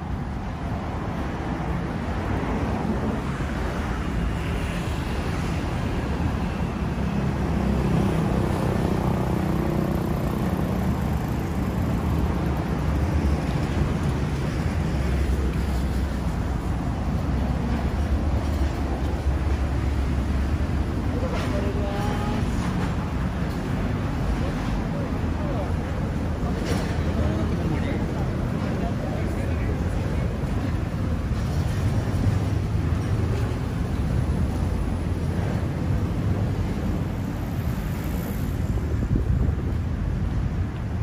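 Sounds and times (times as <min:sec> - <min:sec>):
cars passing on street: 0:00.0 - 0:41.0.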